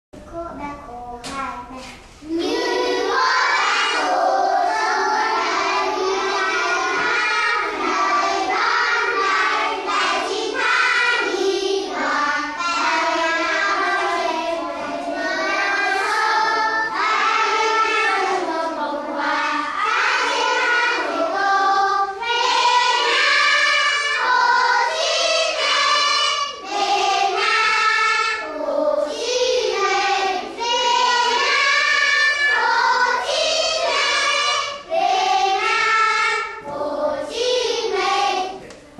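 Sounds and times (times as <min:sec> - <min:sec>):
children singing together: 0:02.2 - 0:38.9.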